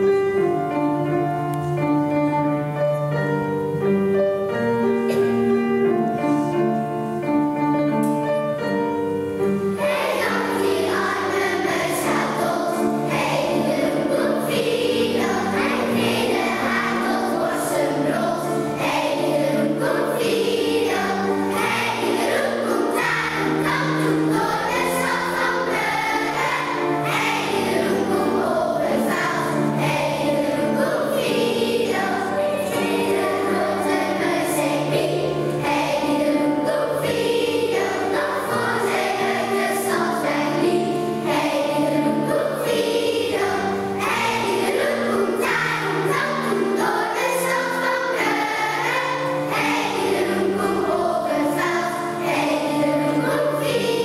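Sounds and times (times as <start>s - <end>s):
keyboard chords: 0.0s - 54.0s
voices singing: 9.8s - 54.0s.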